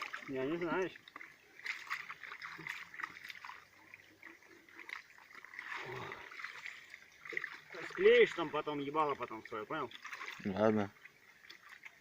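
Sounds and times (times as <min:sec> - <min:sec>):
water sloshing: 0:00.0 - 0:12.0.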